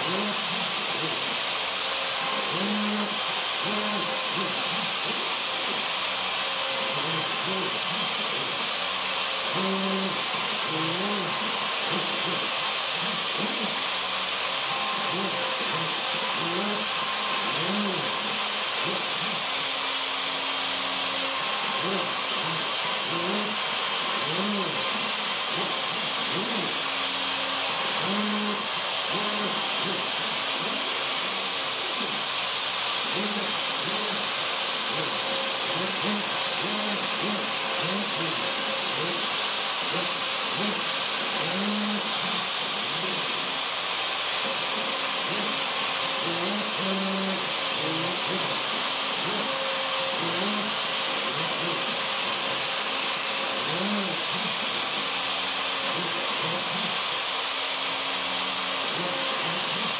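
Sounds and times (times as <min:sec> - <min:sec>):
router carving wood: 0:00.0 - 0:59.9.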